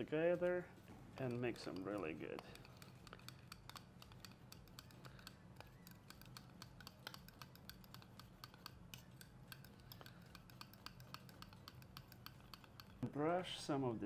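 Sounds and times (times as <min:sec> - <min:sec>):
fork scraping glass bowl: 0:00.2 - 0:13.0.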